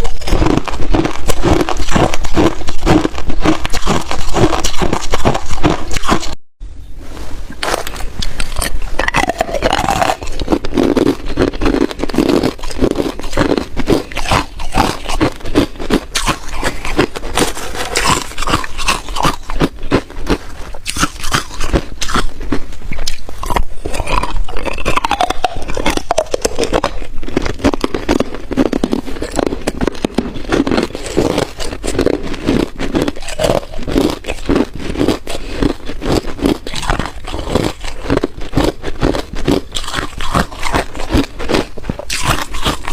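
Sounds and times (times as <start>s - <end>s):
ice crunching between teeth: 0.0s - 6.4s, 7.6s - 42.9s.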